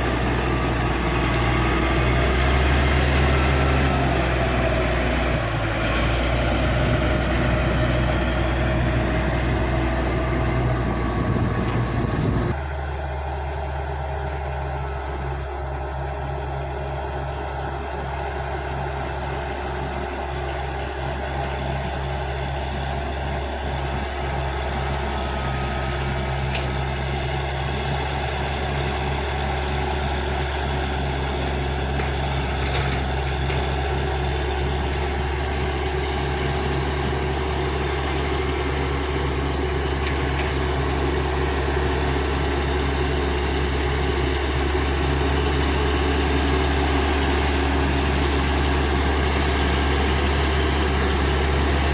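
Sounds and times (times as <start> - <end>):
bulldozer diesel engine droning: 0.0 - 51.9.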